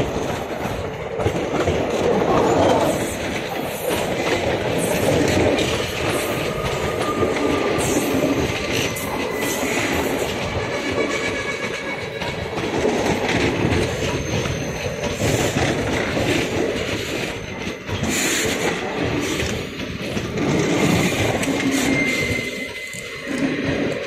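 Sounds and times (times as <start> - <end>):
train wheel squeal: 0.0 - 24.0
train wheels clattering on rails: 0.0 - 24.0.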